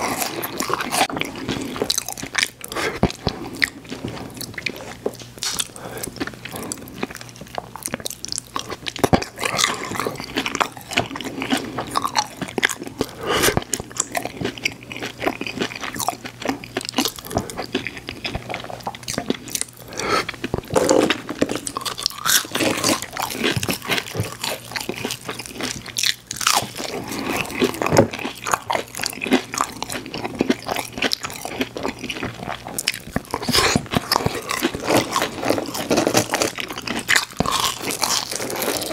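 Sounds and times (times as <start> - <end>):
crunching and chewing food: 0.0 - 38.9.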